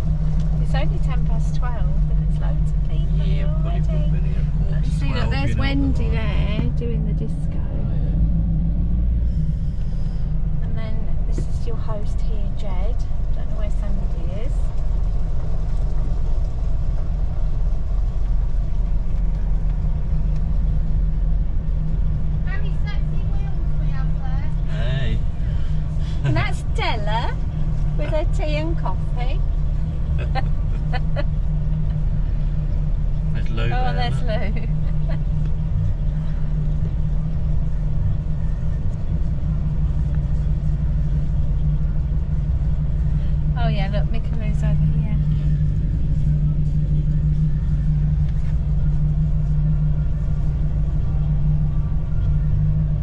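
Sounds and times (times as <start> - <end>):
vehicle engine rumbling: 0.0 - 53.0.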